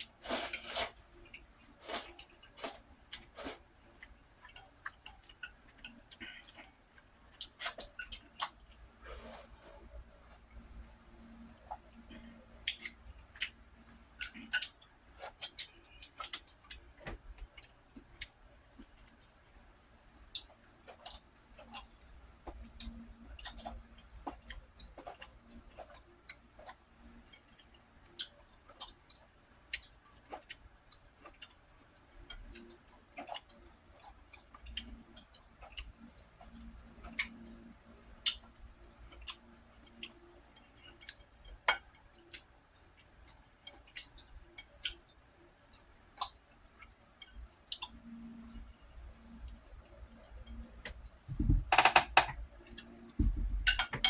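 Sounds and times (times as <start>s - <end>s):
person chewing food: 0.0s - 10.5s, 11.5s - 19.6s, 20.3s - 53.9s.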